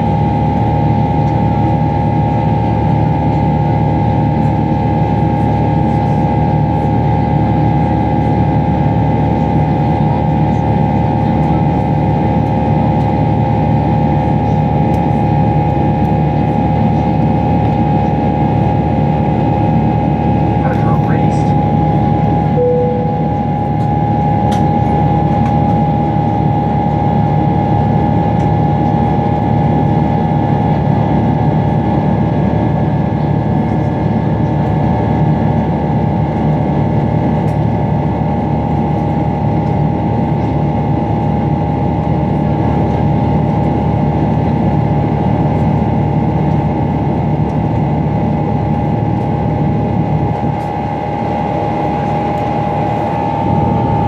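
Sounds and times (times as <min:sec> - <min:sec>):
jet engine rumble and hum: 0:00.0 - 0:54.0.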